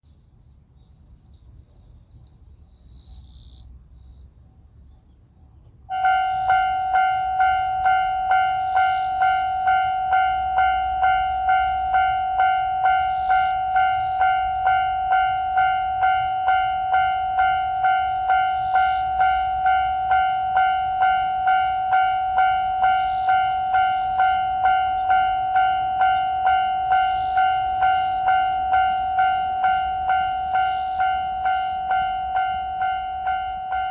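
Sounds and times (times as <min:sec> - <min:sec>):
railroad crossing bell: 0:05.9 - 0:33.9.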